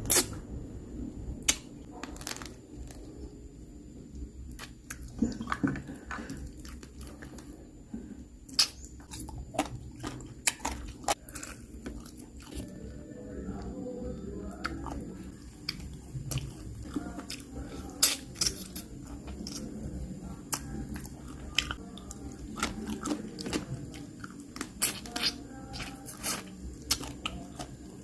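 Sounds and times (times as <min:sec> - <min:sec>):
chewing crunchy food: 0:04.5 - 0:07.7, 0:08.5 - 0:28.0.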